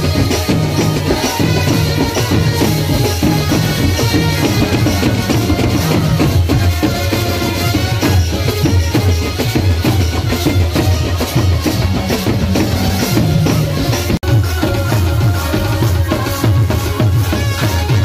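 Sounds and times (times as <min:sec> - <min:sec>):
drums beaten in driving rhythm: 0:00.0 - 0:18.0.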